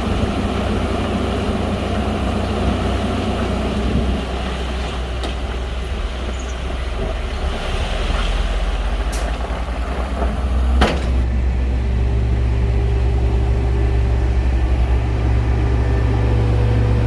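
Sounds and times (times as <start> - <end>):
bulldozer diesel engine drone: 0.0 - 17.0.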